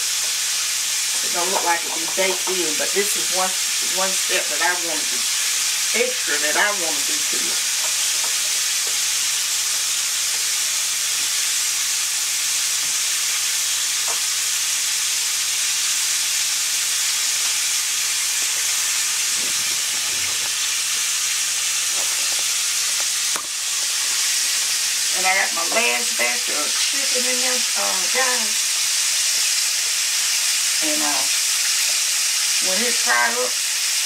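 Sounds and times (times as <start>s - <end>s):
chicken sizzling in hot oil: 0.0s - 34.0s.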